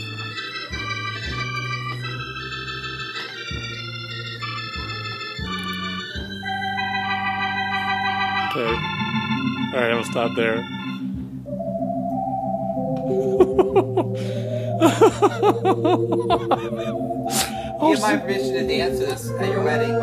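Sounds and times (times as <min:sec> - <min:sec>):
organ playing slow tune: 0:00.0 - 0:20.0.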